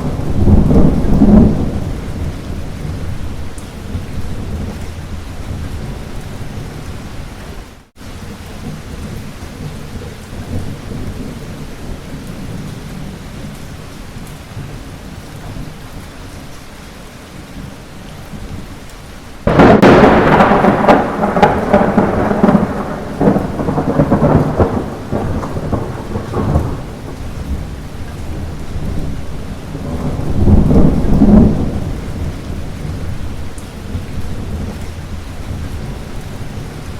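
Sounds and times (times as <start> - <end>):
thunder rumbling: 0.0 - 15.9, 19.4 - 36.9
light rain: 0.0 - 36.9.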